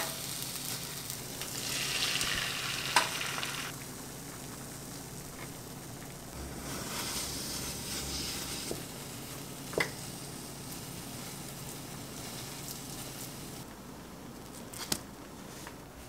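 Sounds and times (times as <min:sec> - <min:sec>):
egg sizzling in a pan: 0:00.0 - 0:13.7.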